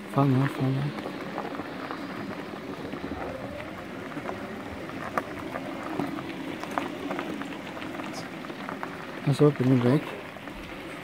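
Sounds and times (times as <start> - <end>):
tyres rolling on gravel: 0.0 - 11.0.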